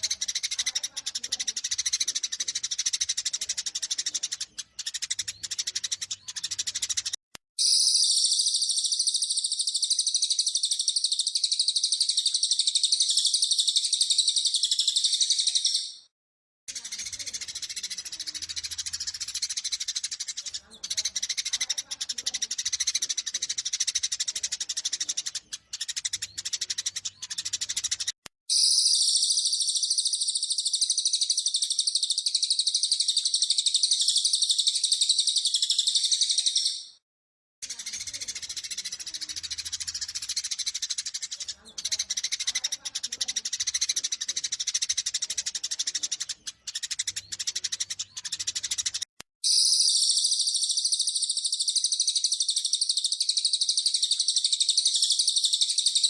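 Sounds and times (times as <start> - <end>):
high-pitched bird trill: 0.0 - 16.1, 16.7 - 37.0, 37.6 - 56.0
sparrows chattering: 0.0 - 16.1, 16.7 - 37.0, 37.6 - 56.0.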